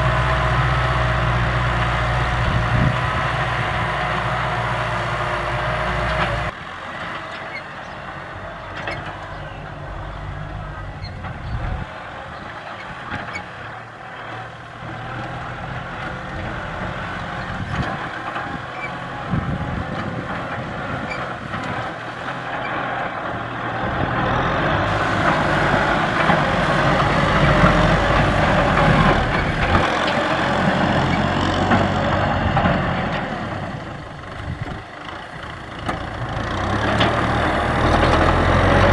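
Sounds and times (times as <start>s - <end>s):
tractor engines running hard: 0.0s - 38.9s.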